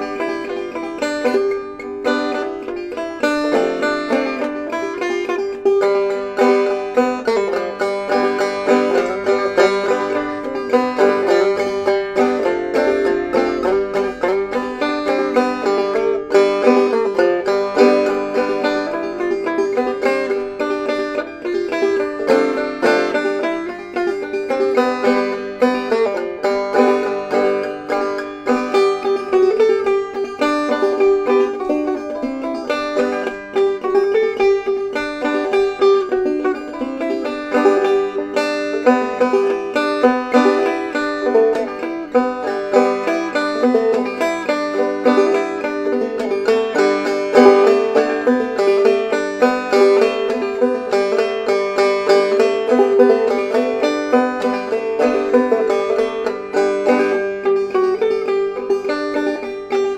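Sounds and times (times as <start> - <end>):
banjo playing: 0.0 - 59.9.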